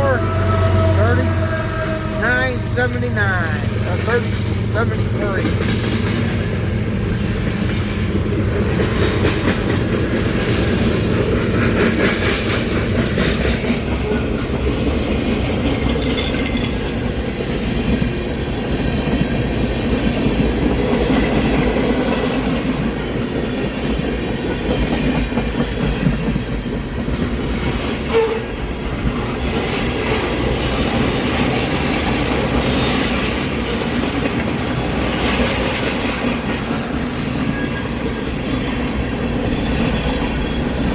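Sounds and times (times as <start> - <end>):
train wheels clacking on rails: 1.7 - 40.9.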